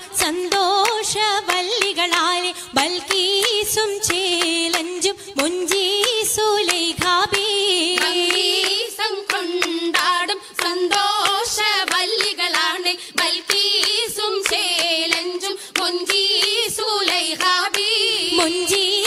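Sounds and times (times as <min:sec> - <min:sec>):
rhythmic hand claps: 0:00.0 - 0:19.0.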